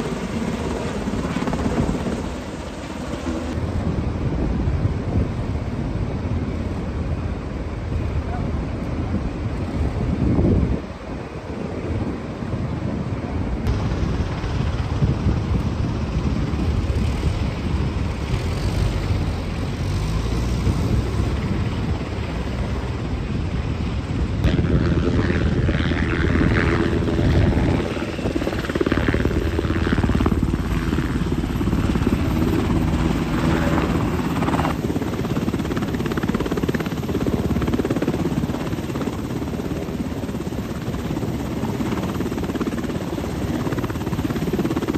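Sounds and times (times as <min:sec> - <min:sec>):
helicopter hovering: 0:00.0 - 0:44.9.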